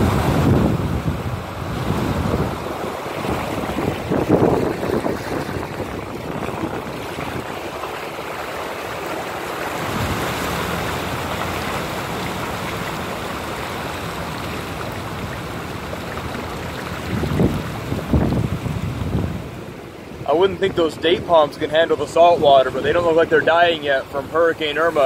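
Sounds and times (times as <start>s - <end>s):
tyres sloshing through water: 1.2s - 25.0s.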